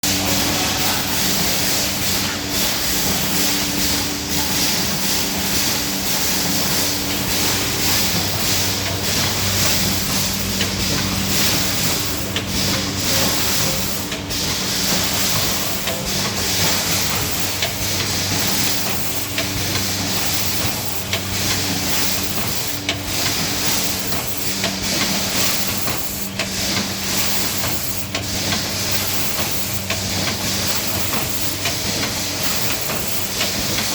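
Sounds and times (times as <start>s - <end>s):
machine hum: 0.0s - 33.9s
machine hiss: 0.1s - 33.9s.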